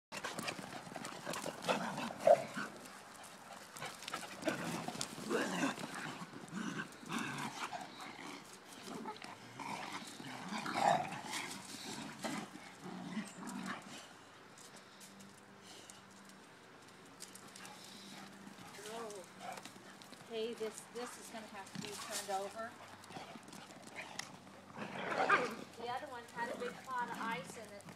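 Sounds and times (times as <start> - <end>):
dogs growling and barking: 0.1 - 14.3, 17.4 - 20.2, 21.7 - 27.5.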